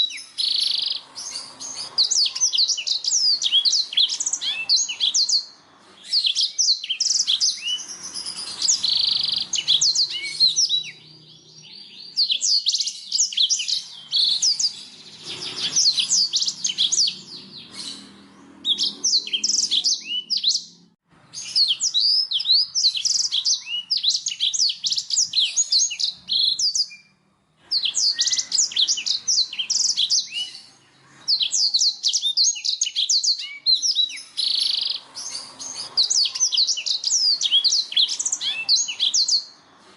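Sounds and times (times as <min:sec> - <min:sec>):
bird singing high twittering trills: 0:00.0 - 0:27.1, 0:27.7 - 0:39.6.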